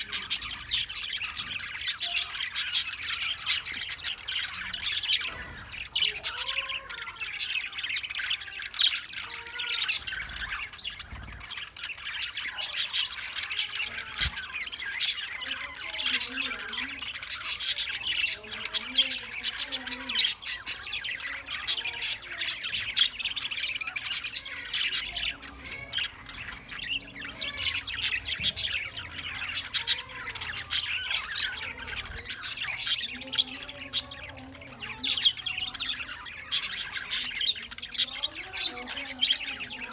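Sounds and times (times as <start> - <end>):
cage birds chirping and squawking: 0.0 - 39.9.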